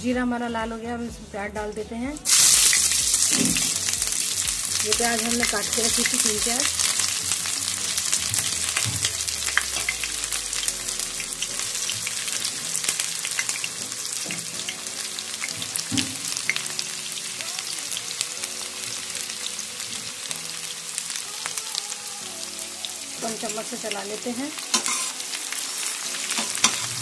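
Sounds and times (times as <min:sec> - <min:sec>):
onions sizzling in hot oil: 0:02.2 - 0:27.0.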